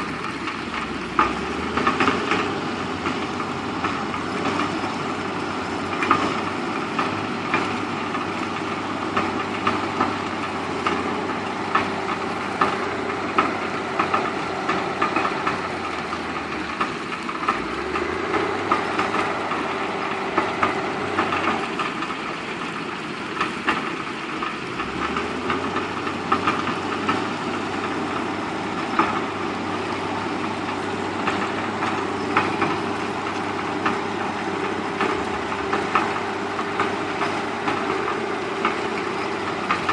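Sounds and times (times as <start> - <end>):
heavy diesel machinery running: 0.0 - 39.9
sharp knocks and clanks: 0.0 - 39.9.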